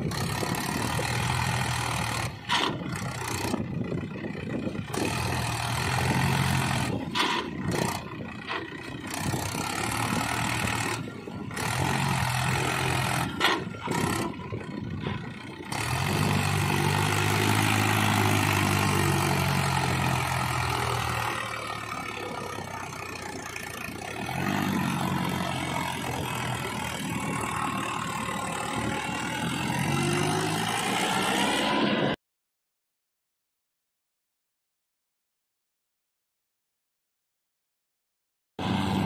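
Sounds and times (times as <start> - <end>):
tractor diesel engine labouring: 0.0 - 32.2, 38.6 - 39.0.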